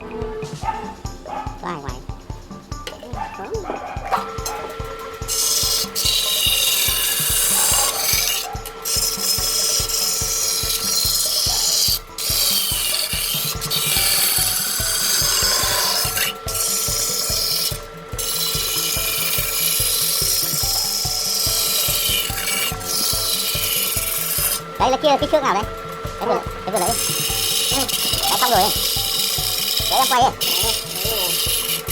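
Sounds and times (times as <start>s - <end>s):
lathe motor whine: 0.0s - 31.9s
lathe tool cutting wood hiss: 3.7s - 31.9s.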